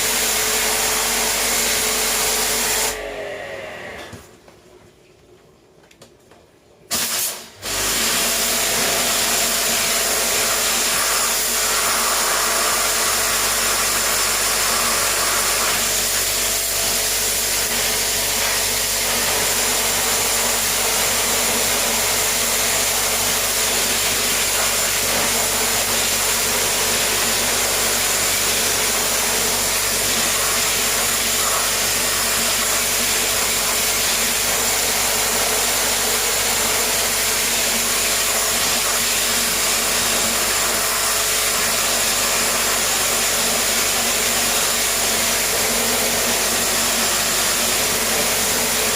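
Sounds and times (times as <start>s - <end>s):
cleaning machine hissing: 0.0s - 4.0s, 6.9s - 48.9s.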